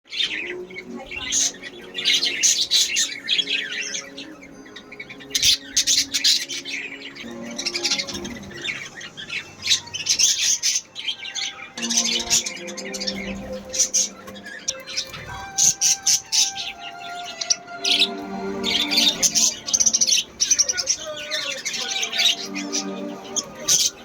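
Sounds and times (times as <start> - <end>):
birds chirping and squawking: 0.0 - 24.0
background music: 0.1 - 24.0.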